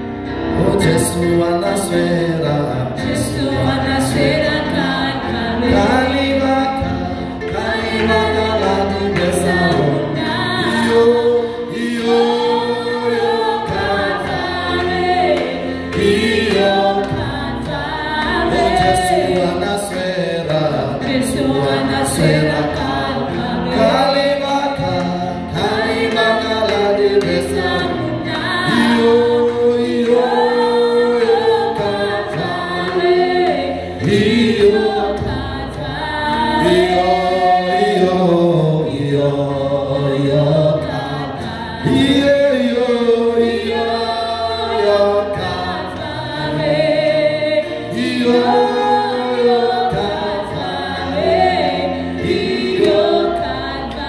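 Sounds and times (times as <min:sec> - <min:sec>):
keyboard accompaniment: 0:00.0 - 0:54.0
man and woman singing: 0:00.5 - 0:54.0.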